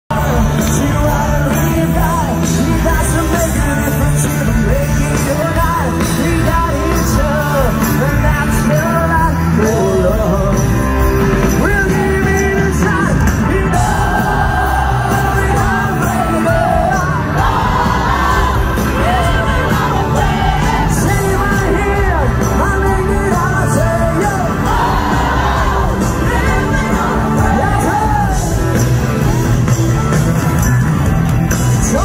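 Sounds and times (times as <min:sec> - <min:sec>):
man singing: 0:00.1 - 0:28.7, 0:31.7 - 0:32.0
live band playing: 0:00.1 - 0:32.0.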